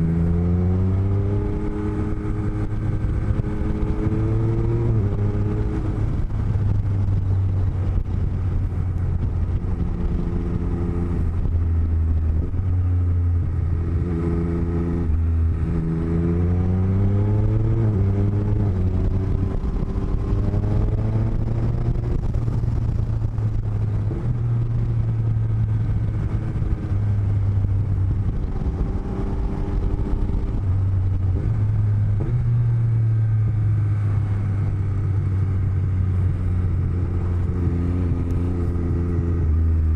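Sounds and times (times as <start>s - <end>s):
low wind rumble: 0.0s - 39.9s
motorcycle engine accelerating: 0.0s - 39.9s.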